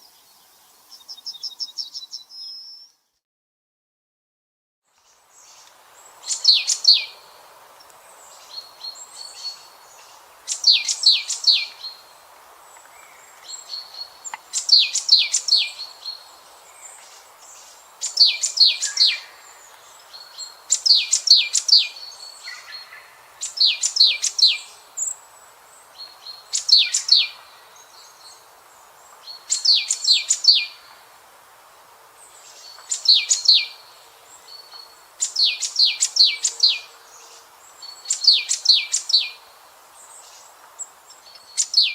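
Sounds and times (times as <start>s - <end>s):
steady background hiss: 0.0s - 2.3s, 4.9s - 41.9s.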